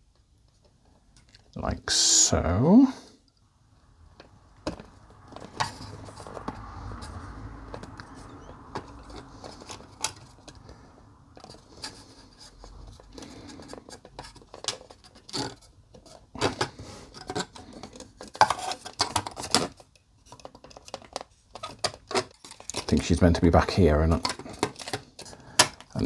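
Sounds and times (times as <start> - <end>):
plastic parts clicking and scraping: 4.1 - 26.0.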